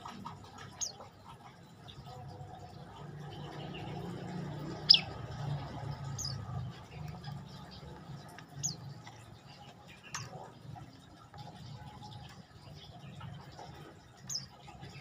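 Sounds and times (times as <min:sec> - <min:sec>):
bird chirping: 0:00.2 - 0:15.0.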